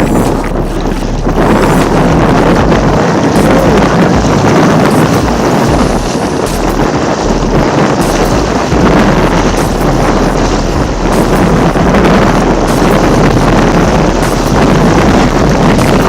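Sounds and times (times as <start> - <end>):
water rushing past boat: 0.0 - 16.0
wind buffeting microphone: 0.0 - 16.0.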